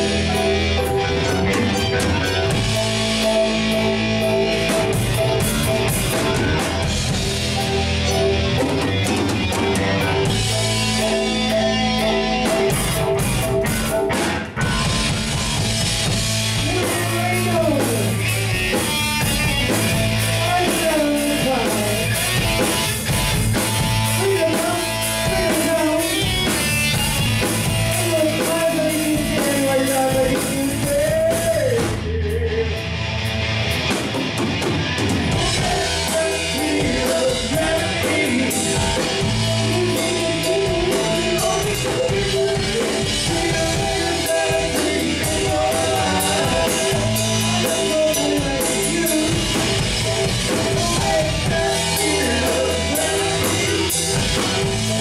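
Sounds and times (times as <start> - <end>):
bending melody line: 0.0 - 31.8, 35.2 - 55.0
live rock band playing: 0.0 - 55.0.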